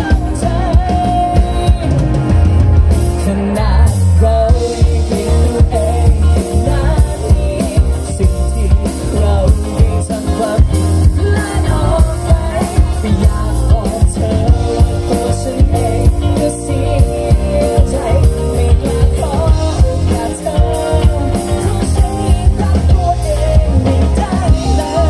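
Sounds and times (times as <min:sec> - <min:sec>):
man singing into a microphone: 0:00.0 - 0:02.5, 0:03.1 - 0:25.0
drum kit: 0:00.0 - 0:25.0
keyboard: 0:00.0 - 0:25.0.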